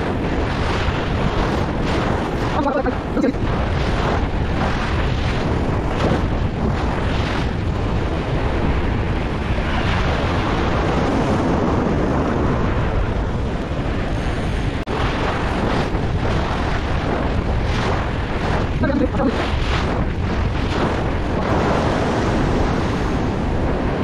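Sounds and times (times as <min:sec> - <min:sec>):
surf washing: 0:00.0 - 0:24.0
wind buffeting microphone: 0:00.0 - 0:24.0.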